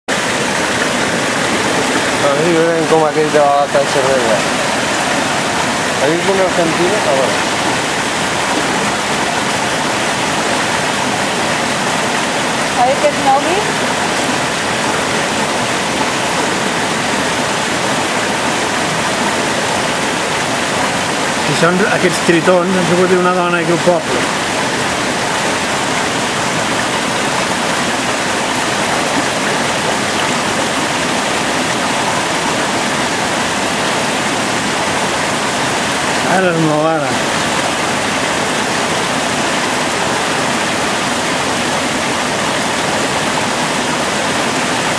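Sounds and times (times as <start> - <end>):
stream water rushing: 0.1 - 44.9.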